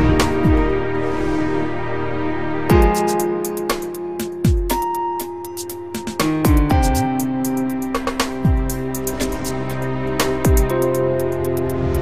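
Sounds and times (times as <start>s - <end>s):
held music chords: 0.0s - 12.0s.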